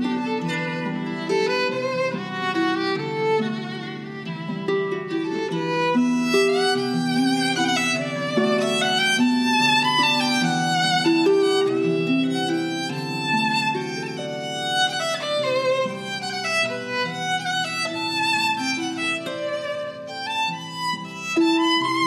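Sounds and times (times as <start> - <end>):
bowed violin melody: 0.0 - 22.0.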